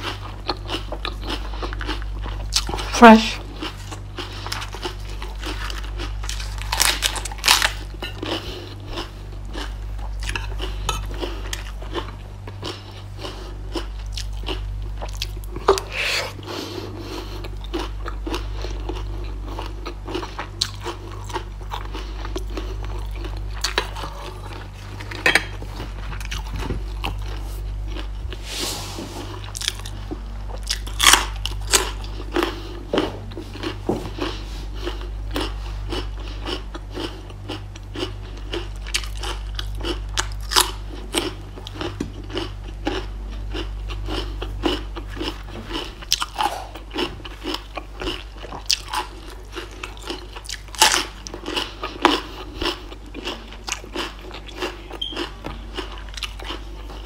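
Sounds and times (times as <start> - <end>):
crunchy vegetable chewing: 0.0 - 57.0
steady low hum: 0.0 - 57.0.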